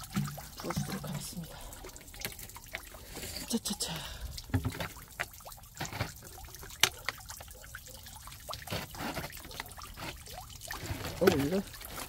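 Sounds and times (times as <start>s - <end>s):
water drips and splashes: 0.0s - 12.0s
water trickling into a pond: 0.0s - 12.0s.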